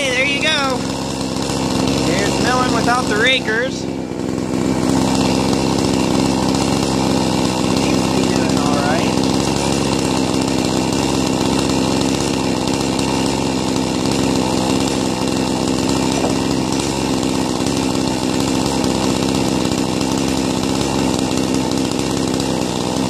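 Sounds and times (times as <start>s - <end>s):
chainsaw engine running: 0.0s - 23.0s.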